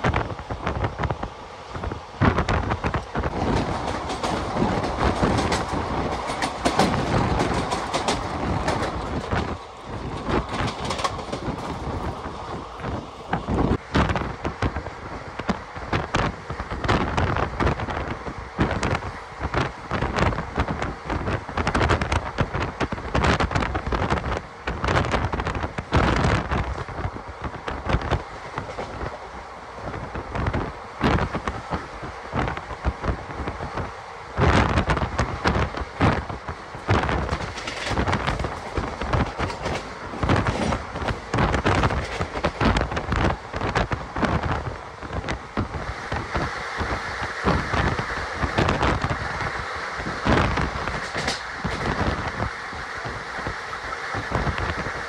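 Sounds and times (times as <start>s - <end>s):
train rumble heard on board: 0.0s - 55.0s
train running gear clatter: 0.0s - 55.0s.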